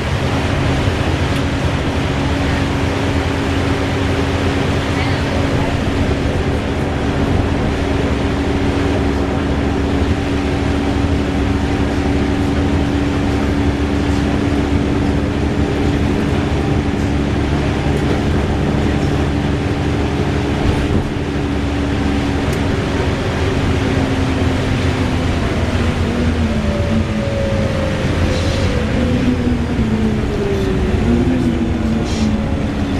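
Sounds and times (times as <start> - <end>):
bus engine drone: 0.0 - 32.9.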